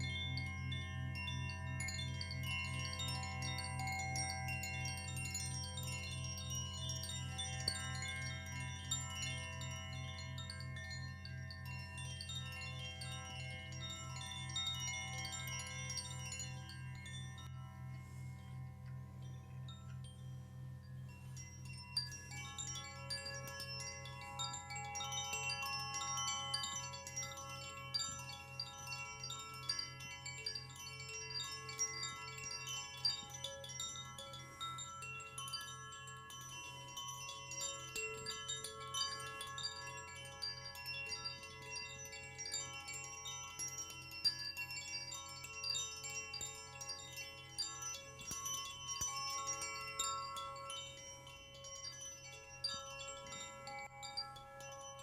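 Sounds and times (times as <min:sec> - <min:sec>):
wind chimes ringing: 0:00.0 - 0:55.0.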